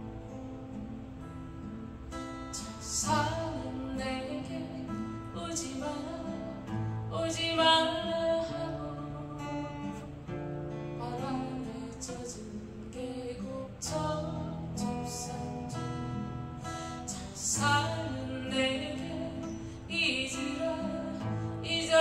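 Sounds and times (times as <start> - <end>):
strummed acoustic guitar: 0.0 - 22.0
woman singing a slow ballad: 2.1 - 22.0.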